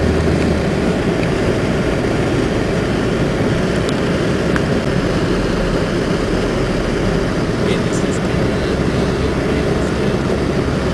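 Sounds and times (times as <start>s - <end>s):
engine and tyre rumble inside van: 0.0s - 10.9s.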